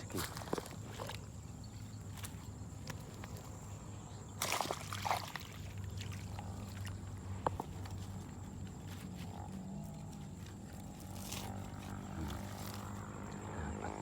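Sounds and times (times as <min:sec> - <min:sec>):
water sloshing and splashing: 0:00.0 - 0:13.2
steady low hum: 0:00.0 - 0:14.0.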